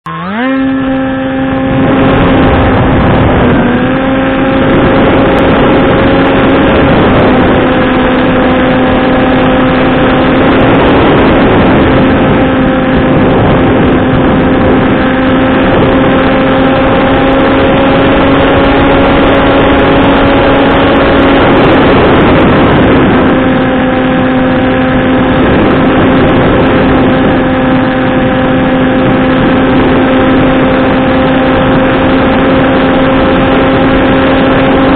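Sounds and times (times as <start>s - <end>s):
electric motor and propeller droning: 0.0s - 34.9s
rushing air: 0.4s - 34.9s.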